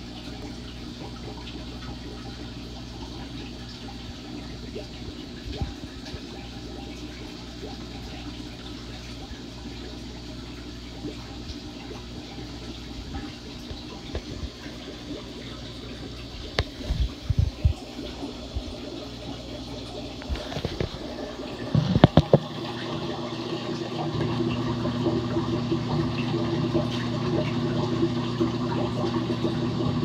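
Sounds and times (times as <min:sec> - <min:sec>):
aquarium water bubbling: 0:00.0 - 0:30.0
low steady hum: 0:00.0 - 0:30.0.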